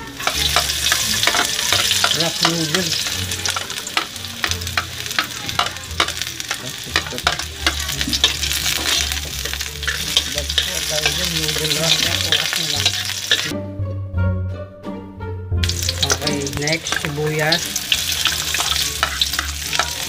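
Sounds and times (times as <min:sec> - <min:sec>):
garlic sizzling in hot oil: 0:00.0 - 0:13.5, 0:15.6 - 0:20.0
metal spatula scraping a pan: 0:00.2 - 0:13.5, 0:15.7 - 0:20.0.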